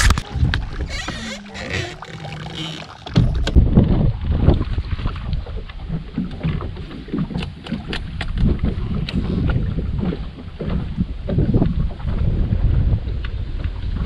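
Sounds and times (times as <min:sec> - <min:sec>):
wind buffeting microphone: 0:00.0 - 0:02.4, 0:03.1 - 0:14.0
water slapping against hull: 0:00.0 - 0:14.0.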